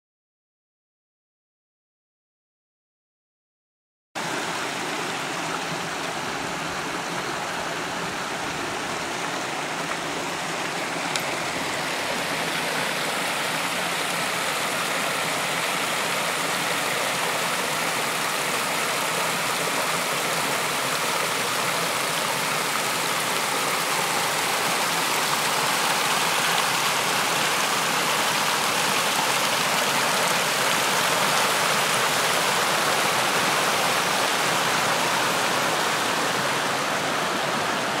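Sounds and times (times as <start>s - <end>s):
stream water spilling over rocks: 4.2s - 38.0s.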